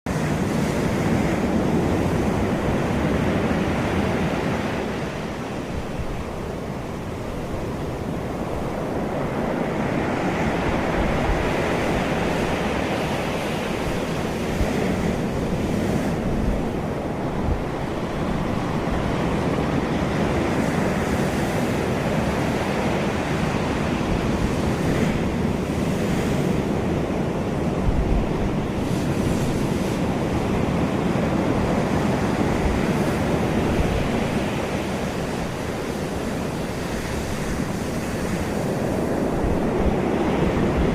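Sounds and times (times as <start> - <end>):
sea waves breaking: 0.1 - 40.9
wind buffeting microphone: 0.1 - 40.9.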